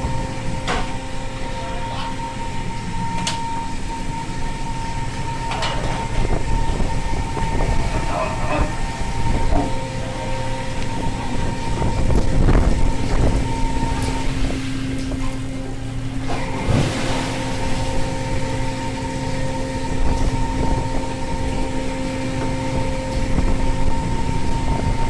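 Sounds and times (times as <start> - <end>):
boat engine drone: 0.0 - 25.0
humming tone: 0.0 - 25.0.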